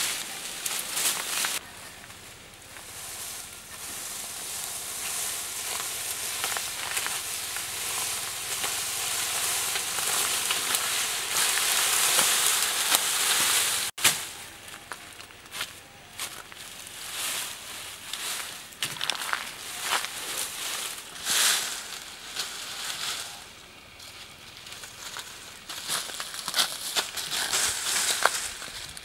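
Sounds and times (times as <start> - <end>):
footsteps crunching through dry leaves: 0.0 - 29.0.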